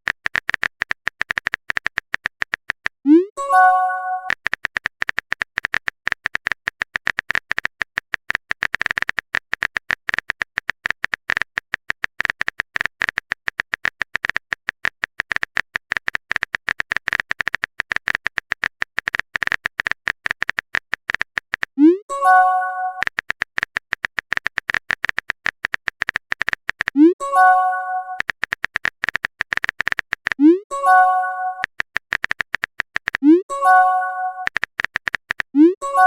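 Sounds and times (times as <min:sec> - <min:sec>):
phone keyboard typing clicks: 0:00.0 - 0:36.0.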